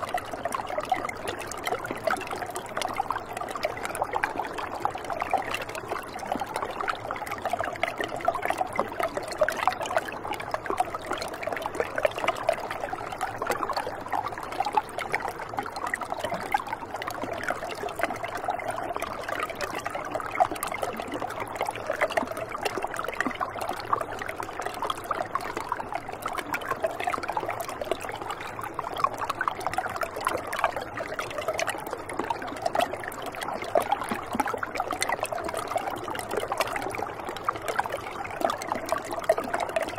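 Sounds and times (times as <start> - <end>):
shallow river trickling over rock: 0.0 - 39.9.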